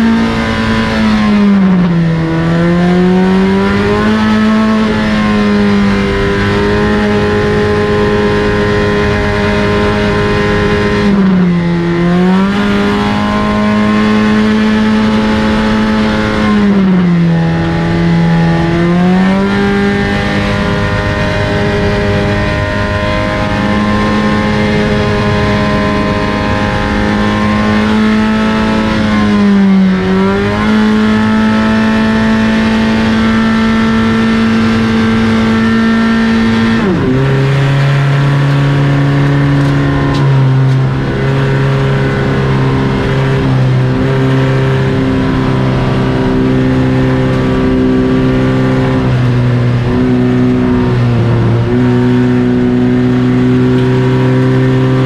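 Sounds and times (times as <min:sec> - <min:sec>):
race car engines revving high: 0:00.0 - 0:55.0.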